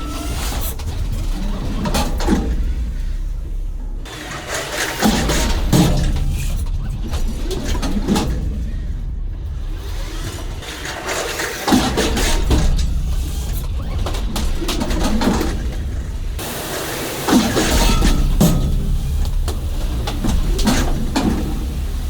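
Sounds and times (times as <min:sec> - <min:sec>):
engine running low: 0:00.0 - 0:22.0
knocks and clunks: 0:00.0 - 0:22.0.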